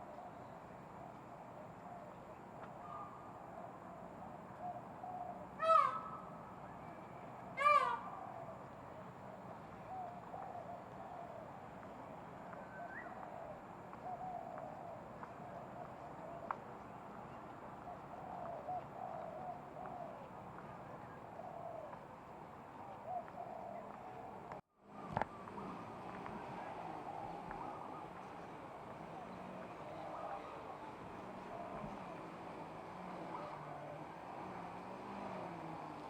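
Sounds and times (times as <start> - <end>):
soft cooing bird calls: 0.0 - 36.0.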